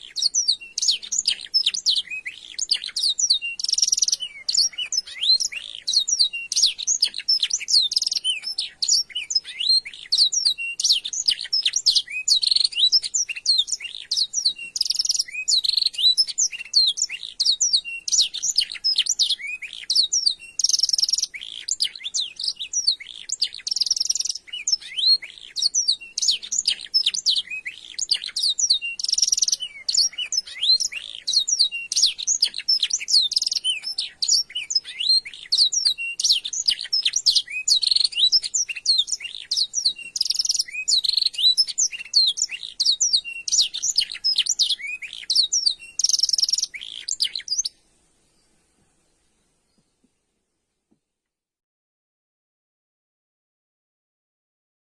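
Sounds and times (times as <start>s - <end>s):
canary singing trills: 0.0s - 47.8s.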